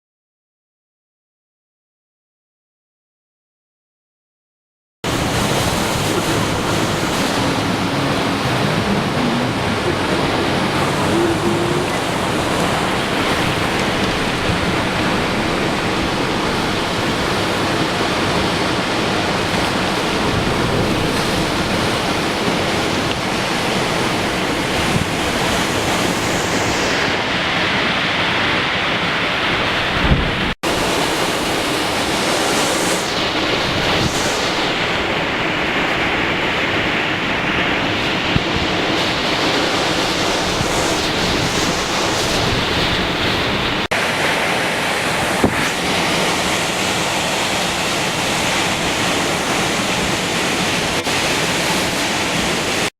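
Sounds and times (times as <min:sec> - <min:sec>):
wind blowing on microphone: 0:05.1 - 0:52.9.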